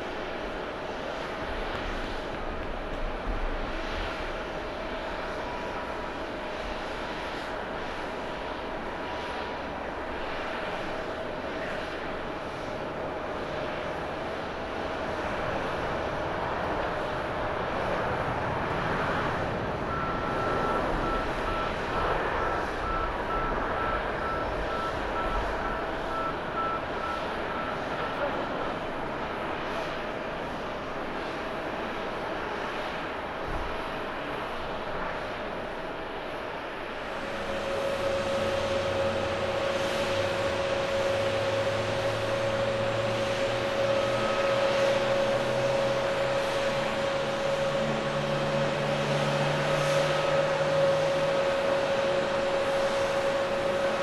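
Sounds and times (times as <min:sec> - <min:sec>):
jet engine noise: 0:00.0 - 0:54.0.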